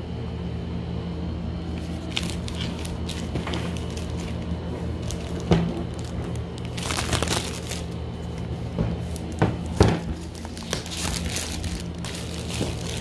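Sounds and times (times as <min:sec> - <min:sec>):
plastic wrap crinkling: 0:01.8 - 0:13.0.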